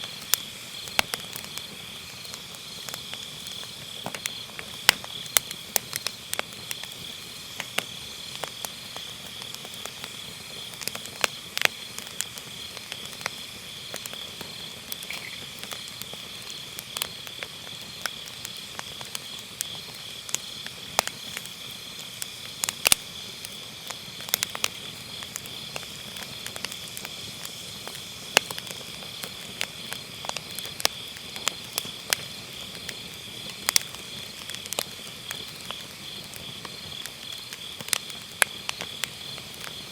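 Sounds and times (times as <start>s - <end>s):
firewood crackling and popping: 0.0s - 39.9s
insects chirring: 0.0s - 39.9s.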